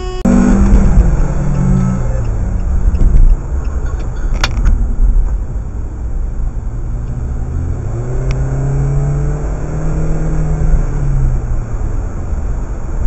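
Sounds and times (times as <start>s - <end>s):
car engine accelerating: 0.0s - 13.0s
tyre road noise: 0.0s - 13.0s.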